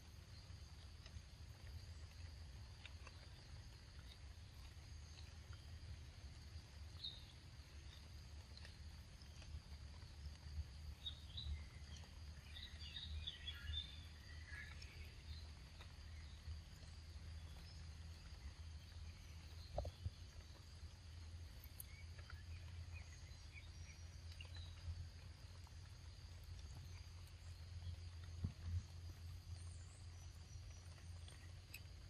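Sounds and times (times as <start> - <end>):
soft small clicks and chirps: 0.0 - 32.0.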